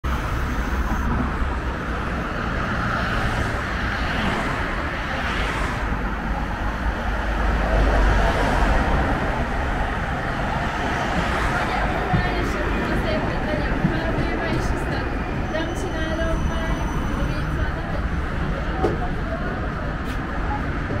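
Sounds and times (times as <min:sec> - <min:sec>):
tram rumbling along track: 0:00.0 - 0:21.0.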